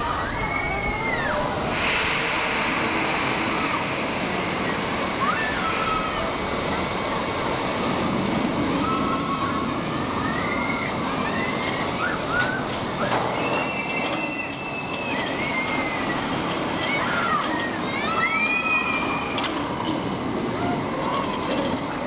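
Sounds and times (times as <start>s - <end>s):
roller coaster wheels rumbling on rail: 0.0s - 22.0s.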